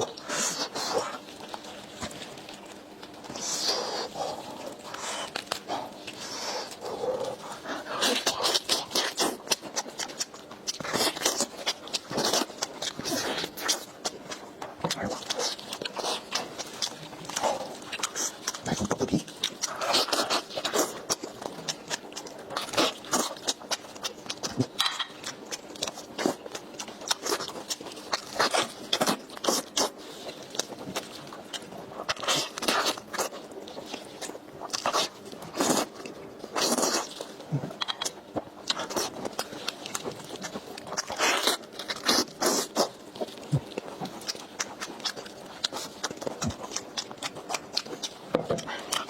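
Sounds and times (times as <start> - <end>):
person chewing crunchy food: 0.0 - 49.0.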